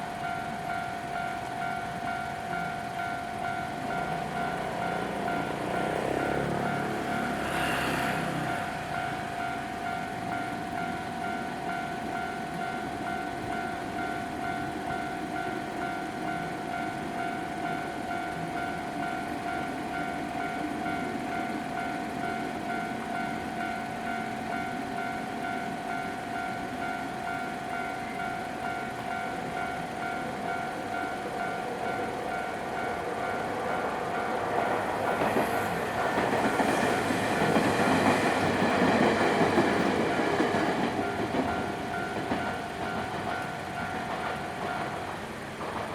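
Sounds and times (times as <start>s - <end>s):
level crossing alarm ringing: 0.0s - 45.4s.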